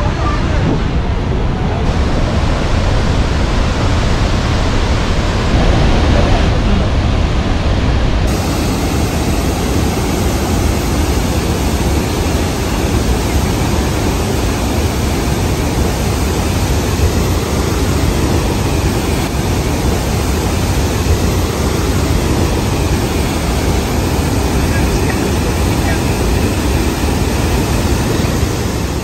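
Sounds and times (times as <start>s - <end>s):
waterfall thundering: 0.0s - 29.0s.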